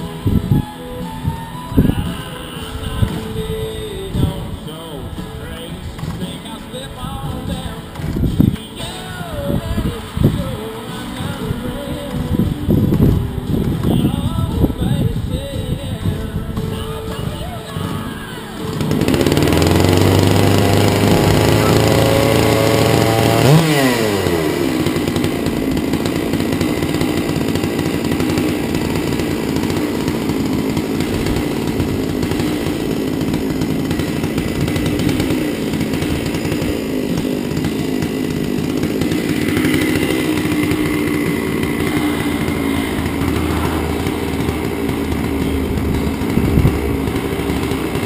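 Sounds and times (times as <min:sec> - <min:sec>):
chainsaw engine running: 0:00.0 - 0:48.0.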